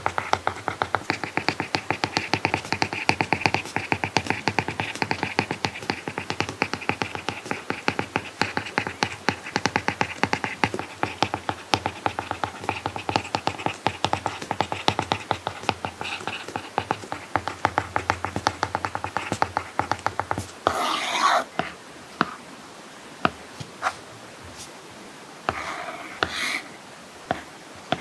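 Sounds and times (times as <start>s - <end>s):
stylus tapping and scratching screen: 0.0s - 22.4s, 23.2s - 24.7s, 25.5s - 28.0s.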